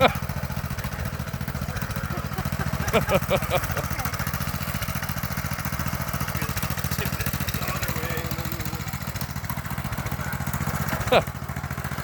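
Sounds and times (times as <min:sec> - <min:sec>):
mini bike engine idling: 0:00.0 - 0:12.0.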